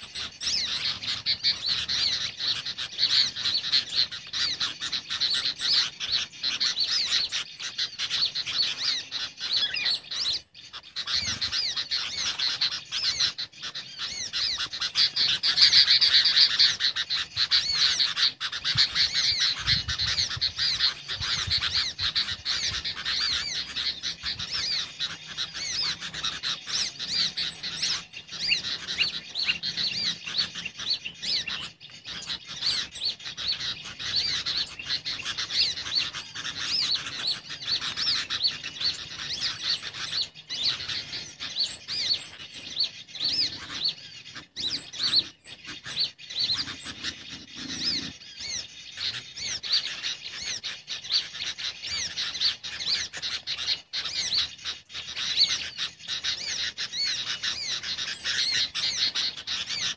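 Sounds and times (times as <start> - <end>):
high-pitched bird chirping: 0.0 - 59.9.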